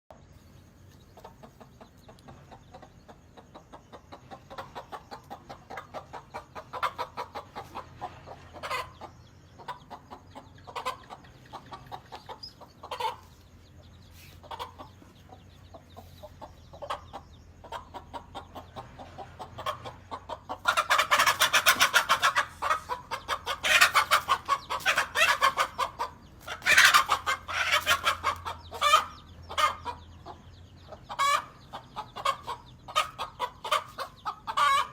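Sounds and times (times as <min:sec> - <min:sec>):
hen clucking and squawking: 0:01.1 - 0:34.9.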